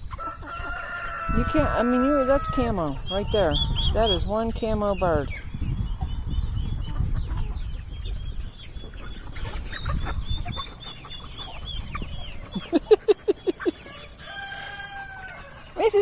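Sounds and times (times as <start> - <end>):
chickens clucking and chirping: 0.0 - 16.0.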